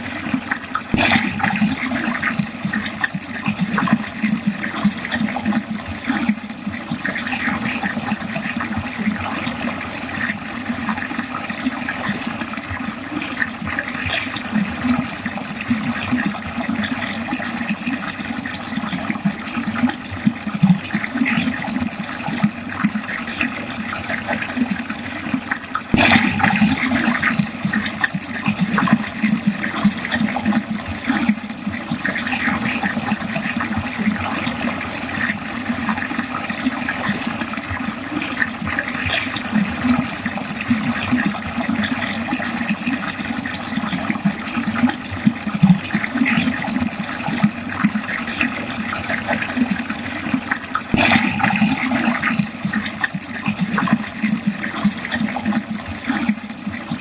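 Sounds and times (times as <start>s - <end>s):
water running down a drain: 0.0s - 57.0s.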